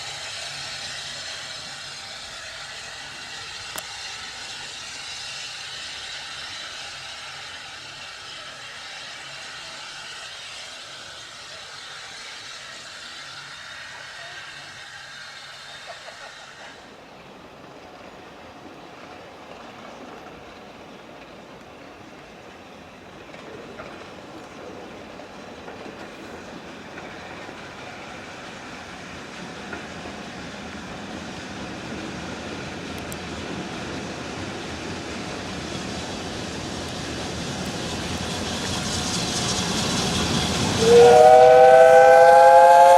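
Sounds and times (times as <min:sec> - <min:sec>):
train wheels on rails: 0:00.0 - 0:42.9.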